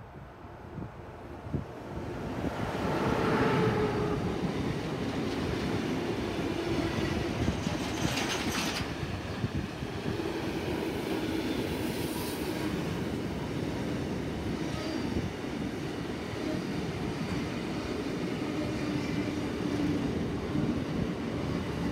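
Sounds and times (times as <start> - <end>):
electric locomotive passing: 0.2 - 21.9
train wagons rumbling on rails: 2.0 - 21.9.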